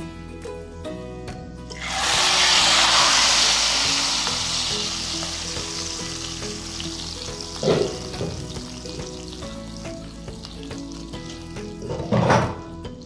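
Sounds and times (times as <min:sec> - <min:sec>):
hot oil sizzling in pot: 0:00.0 - 0:13.0.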